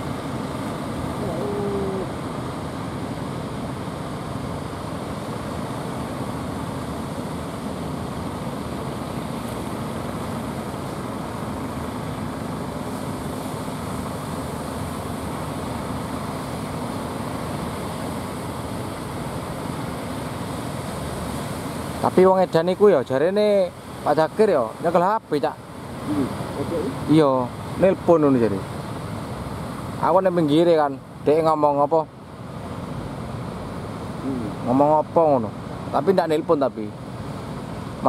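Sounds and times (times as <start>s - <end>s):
distant boat engines humming: 0.0s - 38.0s
surf breaking on beach: 0.0s - 38.0s.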